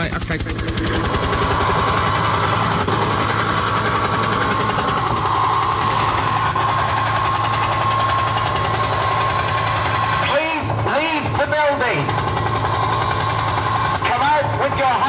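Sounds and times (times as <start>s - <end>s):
helicopter rotor chop through speaker: 0.0s - 15.0s
helicopter whine: 0.0s - 15.0s.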